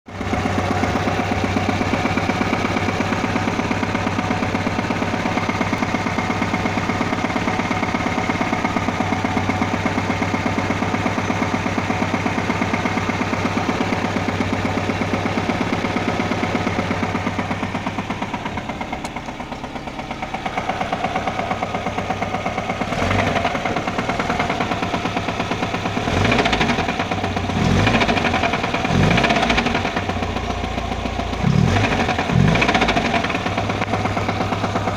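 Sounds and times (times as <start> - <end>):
car engine idling with rapid knock: 0.1 - 34.9
engine revving: 0.1 - 34.9.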